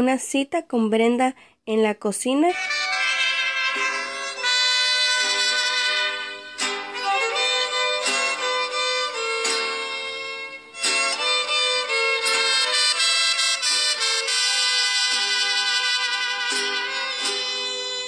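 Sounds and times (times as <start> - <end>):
instrumental background music: 2.5 - 18.0.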